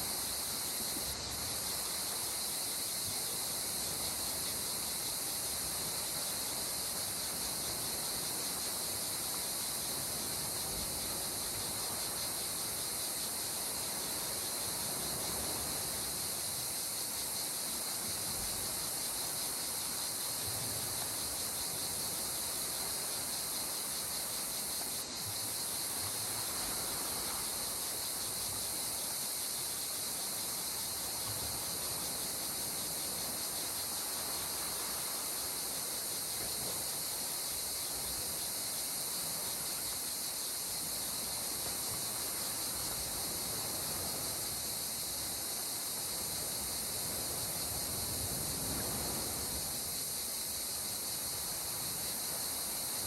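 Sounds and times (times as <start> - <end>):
calm sea water: 0.0 - 53.0.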